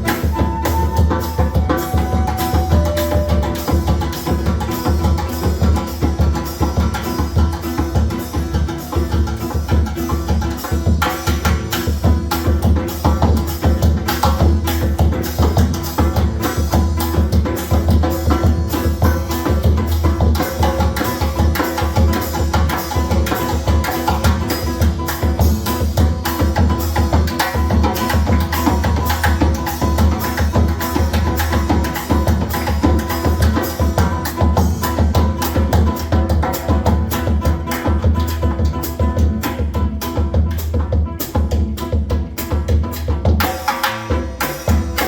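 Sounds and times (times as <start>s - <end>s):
guitar: 0.0s - 43.4s
hand percussion: 0.0s - 45.0s.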